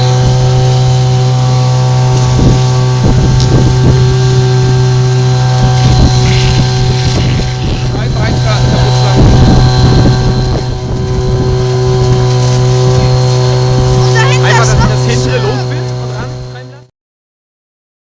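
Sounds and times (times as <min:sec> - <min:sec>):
wind buffeting microphone: 0:00.0 - 0:16.6
low mechanical hum with tones: 0:00.0 - 0:16.9.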